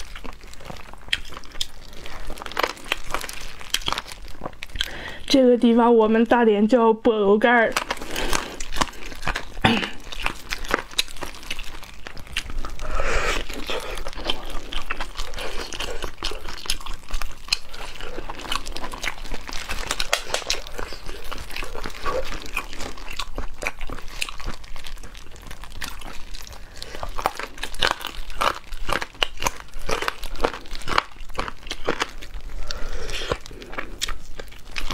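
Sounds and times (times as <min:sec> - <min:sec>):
meat being torn apart: 0:00.0 - 0:04.9, 0:07.8 - 0:34.9
wet chewing and smacking: 0:00.0 - 0:05.4, 0:07.5 - 0:34.9
plastic gloves crinkling: 0:00.0 - 0:34.9.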